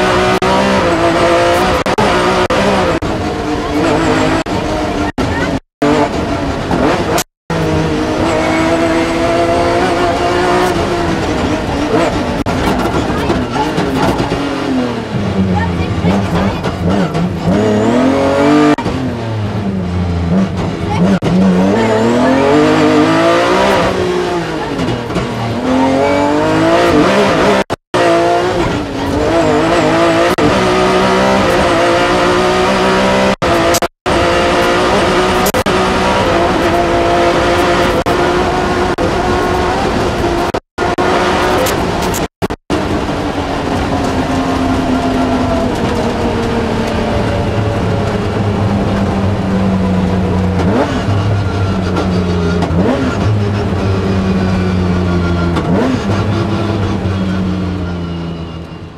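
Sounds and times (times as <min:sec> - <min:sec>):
rally car engine revving: 0:00.0 - 0:58.9.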